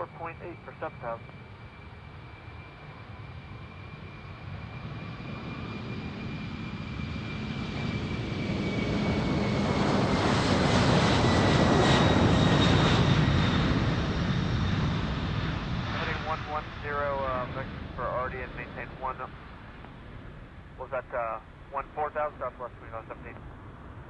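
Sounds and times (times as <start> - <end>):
high engine whine: 0.0 - 24.0
jet engines rumbling: 0.0 - 24.0.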